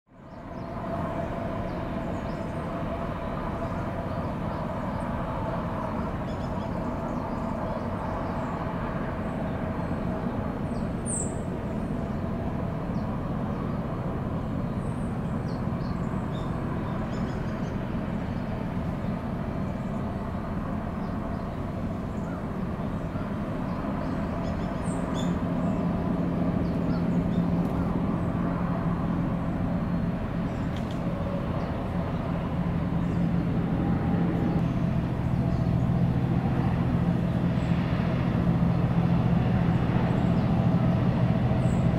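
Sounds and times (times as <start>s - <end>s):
distant gas turbine drone: 0.1s - 41.9s.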